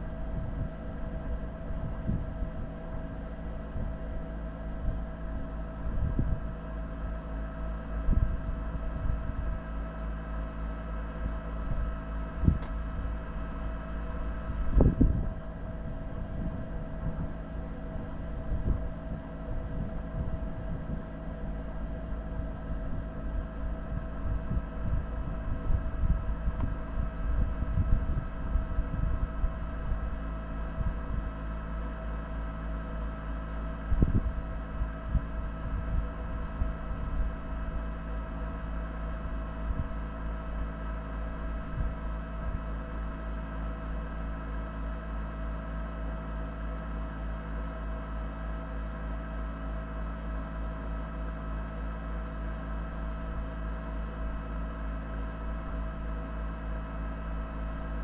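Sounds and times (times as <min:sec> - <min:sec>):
engine running with low rumble: 0:00.0 - 0:58.0.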